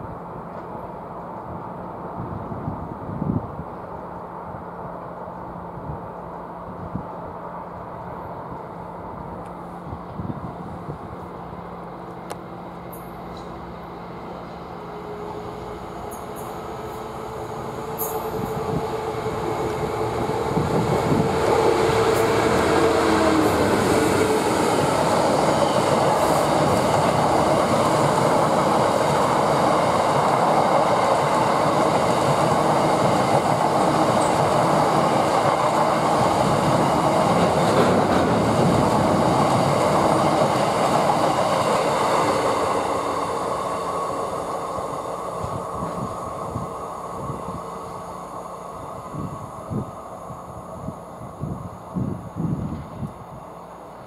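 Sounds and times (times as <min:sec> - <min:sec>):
diesel locomotive engine: 0:00.0 - 0:54.0.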